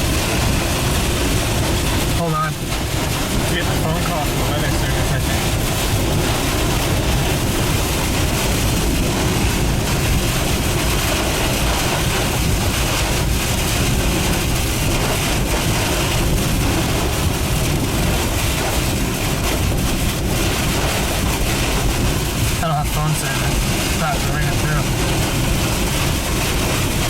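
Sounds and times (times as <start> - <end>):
strong wind around a vehicle: 0.0 - 27.0.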